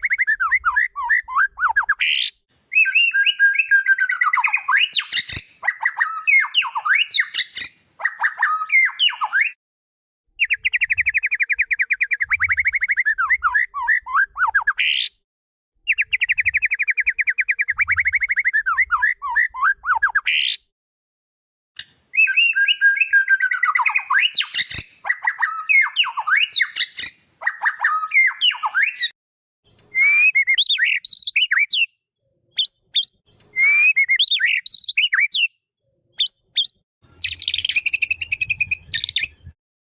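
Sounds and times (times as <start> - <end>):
bird singing whistled notes and trills: 0.0 - 9.6, 10.4 - 15.2, 15.8 - 20.6, 21.9 - 39.6.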